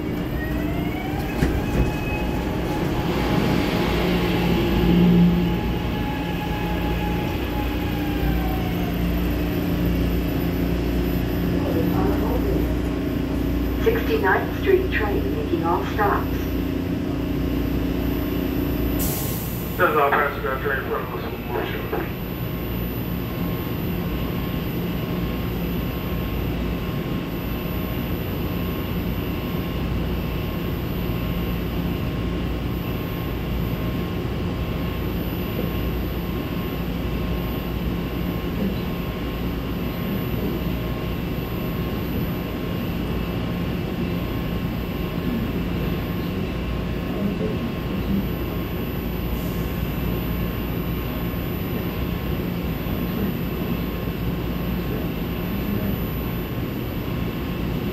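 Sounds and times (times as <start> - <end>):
thin steady whine: 0.0 - 57.9
train equipment humming: 0.0 - 57.9.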